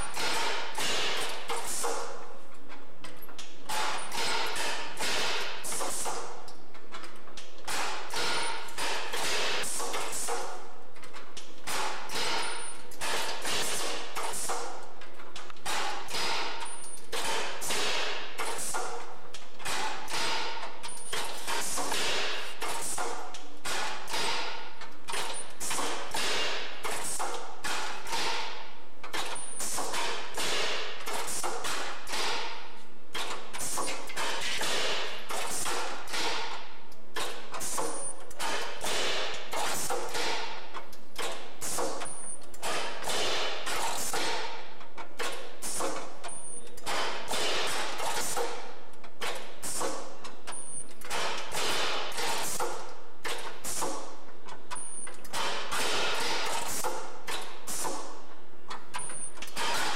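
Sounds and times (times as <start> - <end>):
mechanism knocking and clattering: 0.0 - 59.9.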